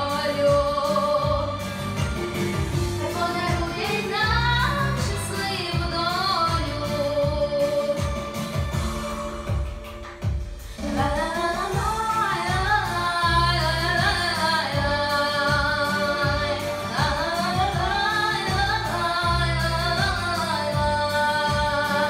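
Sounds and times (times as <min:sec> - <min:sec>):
girl singing into microphone: 0:00.0 - 0:01.8, 0:03.0 - 0:08.4, 0:10.7 - 0:22.0
instrumental music with pulsing bass: 0:00.0 - 0:22.0.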